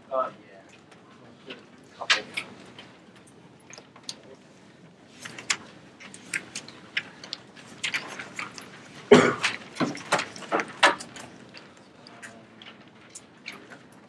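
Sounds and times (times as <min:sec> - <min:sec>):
papers rustling: 0:00.8 - 0:14.0.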